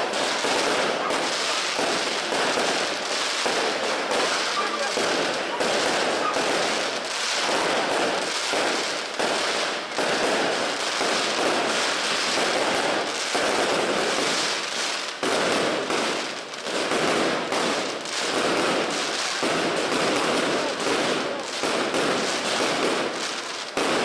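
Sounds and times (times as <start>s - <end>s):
firecracker bangs and crackling: 0.0s - 24.0s.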